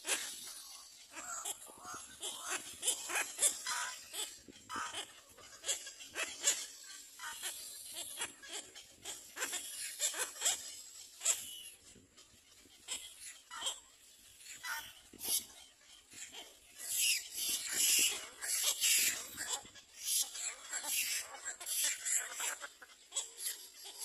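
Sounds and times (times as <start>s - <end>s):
rapid animal calls and clicks: 0.0s - 24.0s.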